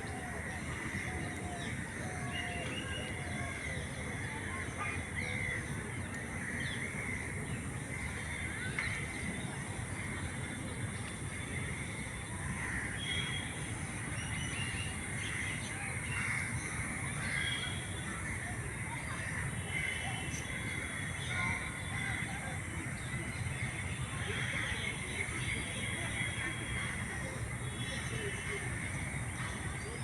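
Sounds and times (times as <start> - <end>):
birds chirping and cawing: 0.0 - 9.1, 11.5 - 13.5, 15.2 - 30.0
outdoor background noise: 0.0 - 30.0.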